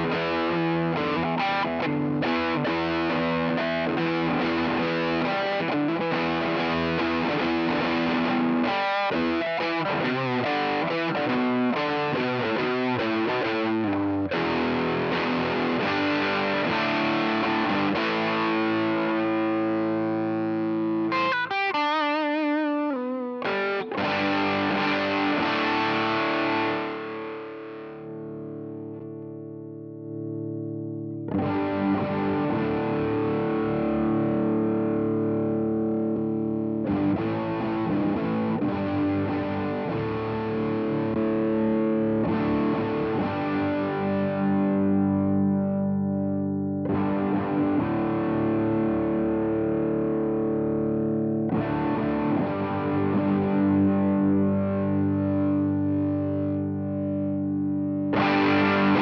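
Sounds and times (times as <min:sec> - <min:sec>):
fuzzy distorted electric guitar: 0:00.0 - 0:59.0.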